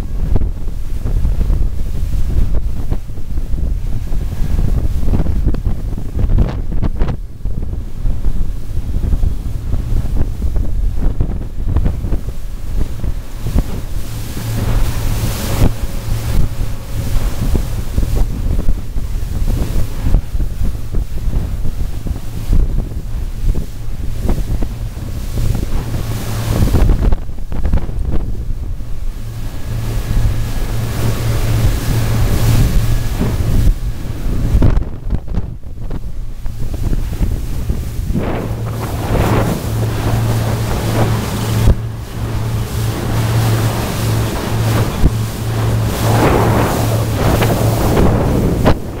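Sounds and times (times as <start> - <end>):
churning water rushing: 0.0 - 49.0
low engine drone: 0.0 - 49.0
wind buffeting microphone: 0.0 - 49.0.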